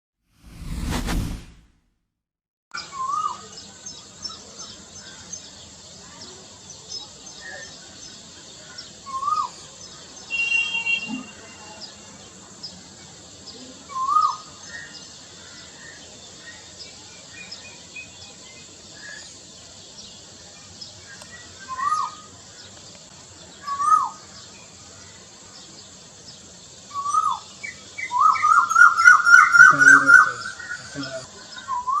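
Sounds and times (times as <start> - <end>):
small birds chirping: 2.8 - 32.0.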